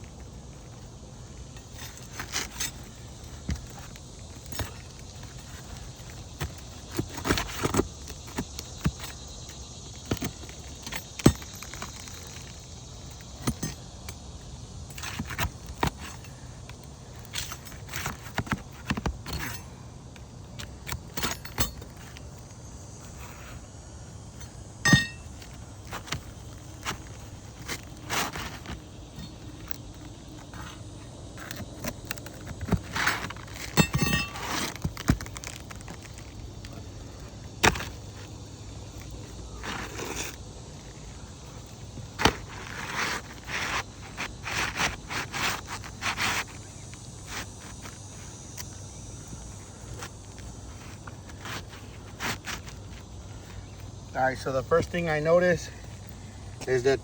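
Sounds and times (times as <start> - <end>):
roof shingles clicking and scraping: 0.0 - 22.5, 25.2 - 53.6.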